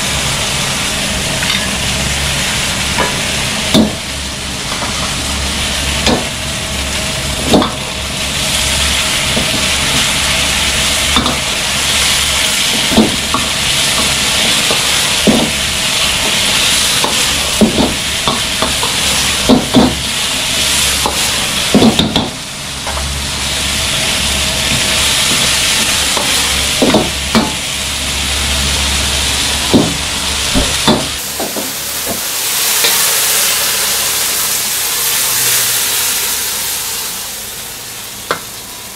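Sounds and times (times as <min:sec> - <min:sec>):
food sizzling in a wok: 0:00.0 - 0:38.9.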